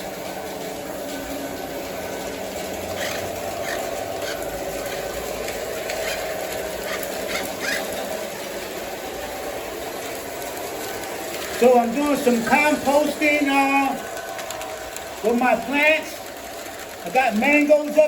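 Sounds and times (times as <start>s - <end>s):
model train motor hum: 0.0s - 18.0s.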